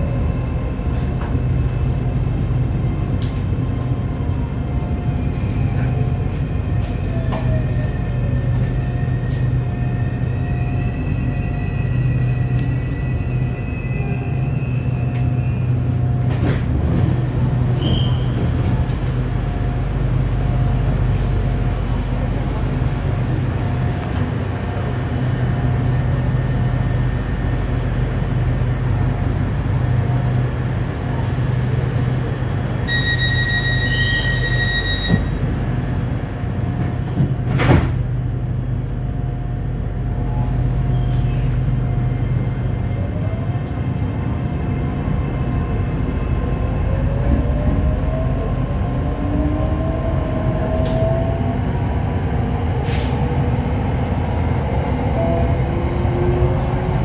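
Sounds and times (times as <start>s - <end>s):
train interior hum: 0.0s - 57.0s.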